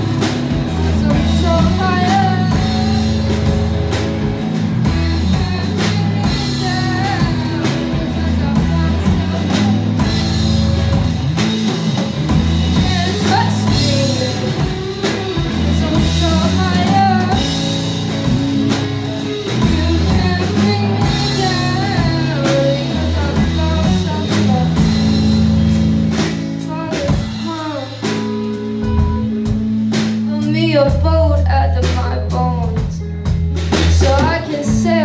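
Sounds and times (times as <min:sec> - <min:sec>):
drum kit beat: 0:00.0 - 0:35.0
electric guitars: 0:00.0 - 0:35.0.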